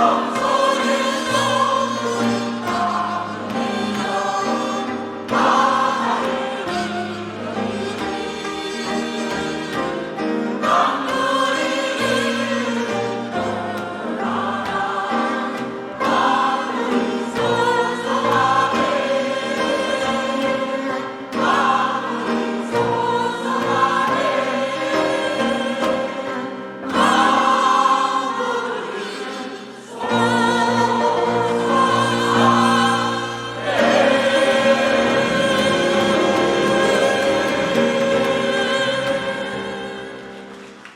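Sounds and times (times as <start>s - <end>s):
choir singing a hymn: 0.0s - 40.9s.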